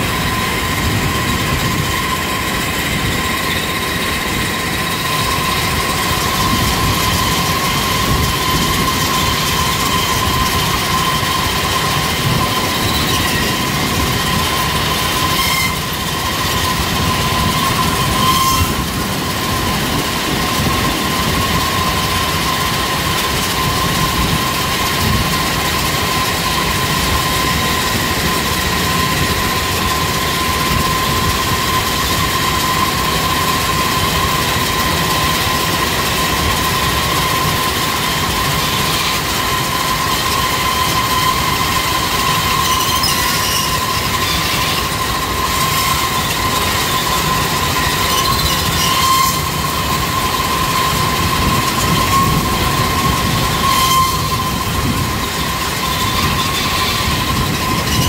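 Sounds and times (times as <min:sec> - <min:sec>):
conveyor whining: 0:00.0 - 0:58.0.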